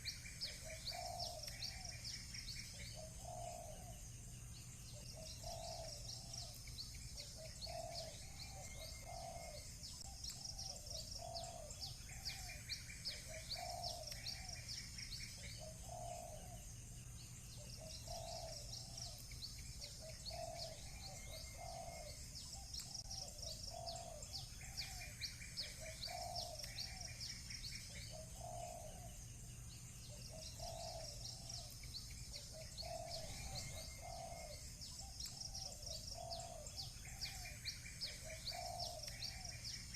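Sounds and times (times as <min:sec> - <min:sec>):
low cooing calls: 0:00.0 - 0:04.1, 0:04.9 - 0:16.7, 0:17.5 - 0:29.3, 0:30.0 - 0:39.9
bird trills: 0:00.0 - 0:29.2, 0:29.8 - 0:39.9
birds chirping: 0:00.0 - 0:39.9.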